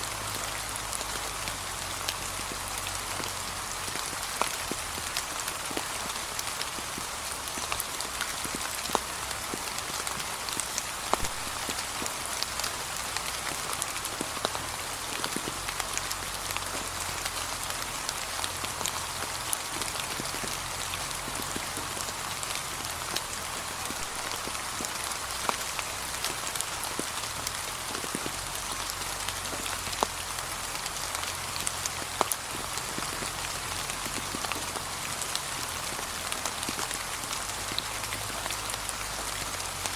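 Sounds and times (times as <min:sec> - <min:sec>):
gentle rain patter: 0:00.0 - 0:39.9.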